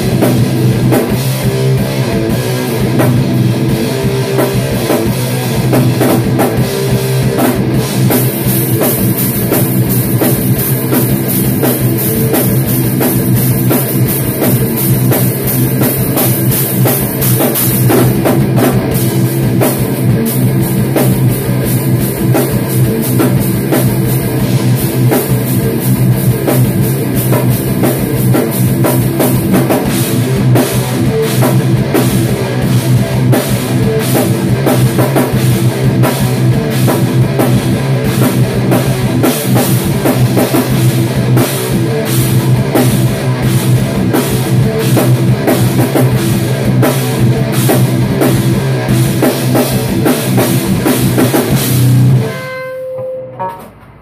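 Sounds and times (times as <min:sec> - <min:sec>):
drum kit with cymbals: 0:00.0 - 0:54.0
electric guitar through amplifiers: 0:00.0 - 0:54.0.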